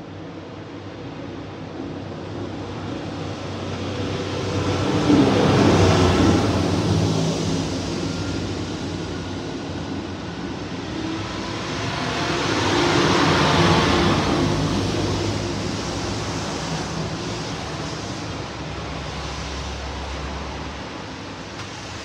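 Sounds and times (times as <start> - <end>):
extractor fan hum and rushing air: 2.6 - 22.0.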